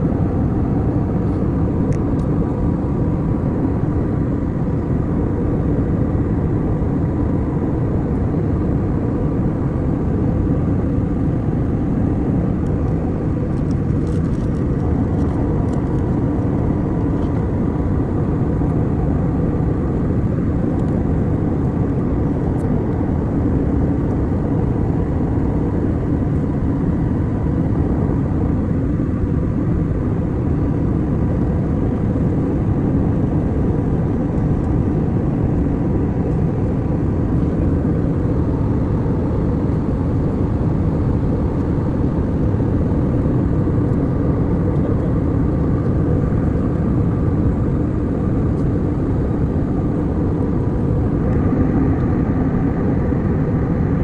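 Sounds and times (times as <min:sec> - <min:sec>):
airliner cabin rumble: 0:00.0 - 0:54.0
faint steady hum: 0:00.0 - 0:54.0.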